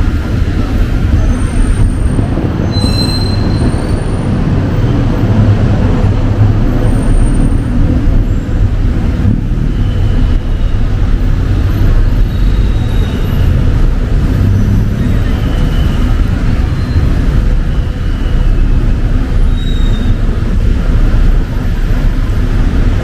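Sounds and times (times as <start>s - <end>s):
road traffic rumbling: 0.0s - 23.0s.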